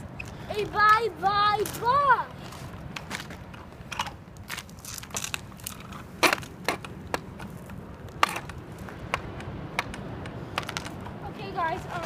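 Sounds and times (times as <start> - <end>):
trike clicks and crackles: 0.0 - 1.0, 1.6 - 12.0
wheels rumbling on concrete: 0.0 - 12.0.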